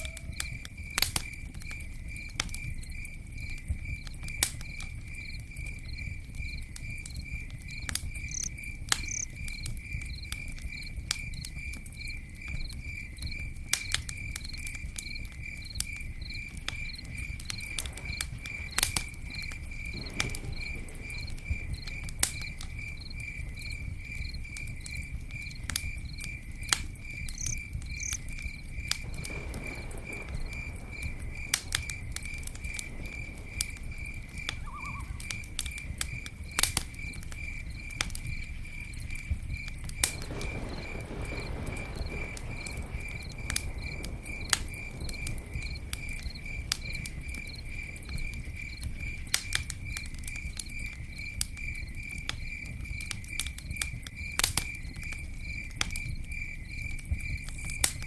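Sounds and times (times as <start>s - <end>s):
campfire crackling and popping: 0.0s - 58.0s
cricket chirping: 0.0s - 58.0s
low rumble of flames: 0.0s - 58.0s.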